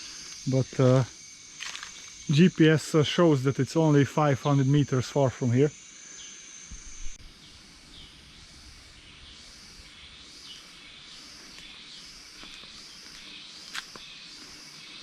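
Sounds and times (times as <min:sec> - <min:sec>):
high insect whine: 0:00.0 - 0:15.0
insects droning in chorus: 0:00.0 - 0:15.0.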